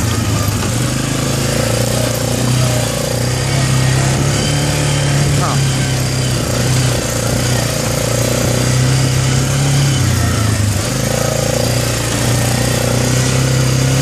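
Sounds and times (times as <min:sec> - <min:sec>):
atv engine running under load: 0:00.0 - 0:14.0.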